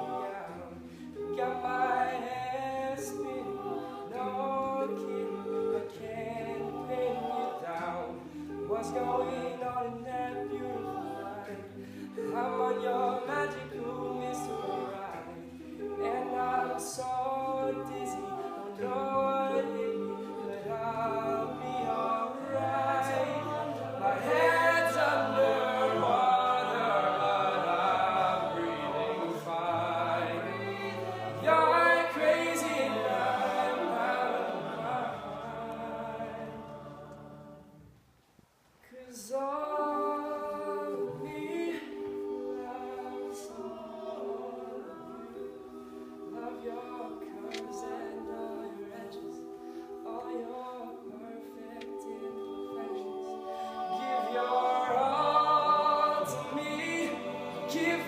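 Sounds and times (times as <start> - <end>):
male group singing in harmony: 0.0 - 37.8, 39.0 - 58.0.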